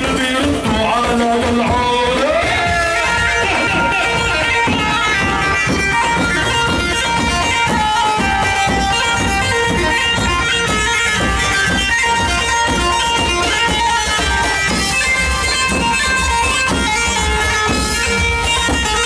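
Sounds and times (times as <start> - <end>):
reedy wind instrument melody: 0.0 - 19.0
steady drum beat: 0.0 - 19.0.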